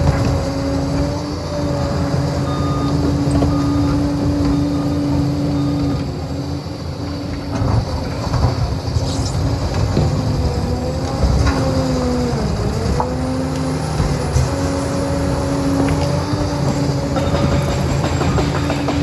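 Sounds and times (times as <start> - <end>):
crawler dozer engine whine: 0.0 - 19.0.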